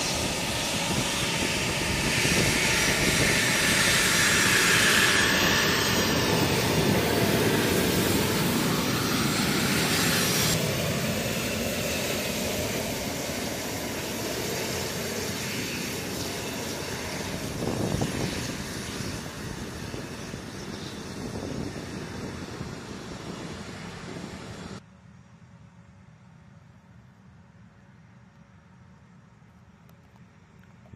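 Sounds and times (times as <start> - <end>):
jet engines whining: 0.0 - 24.8.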